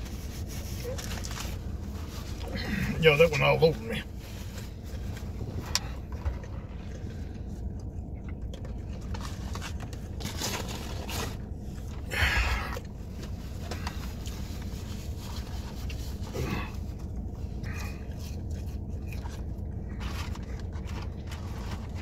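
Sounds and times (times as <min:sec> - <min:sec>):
scrapes and rustles: 0:00.0 - 0:07.8, 0:08.4 - 0:22.0
chewing a sandwich: 0:00.0 - 0:22.0
steady low hum: 0:00.0 - 0:22.0.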